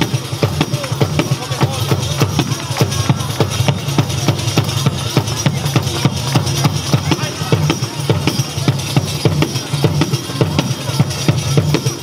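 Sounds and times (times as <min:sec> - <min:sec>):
folk band dance music: 0:00.0 - 0:12.0
quick percussion beat: 0:00.0 - 0:12.0.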